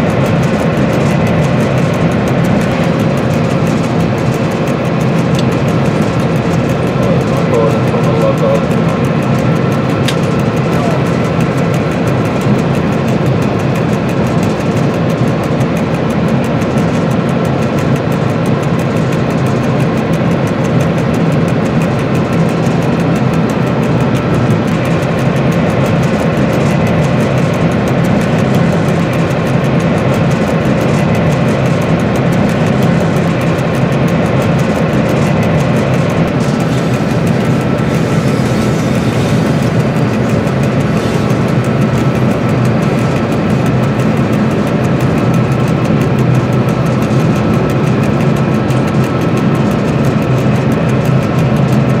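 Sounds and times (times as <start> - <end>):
diesel locomotive engine running: 0.0 - 52.0.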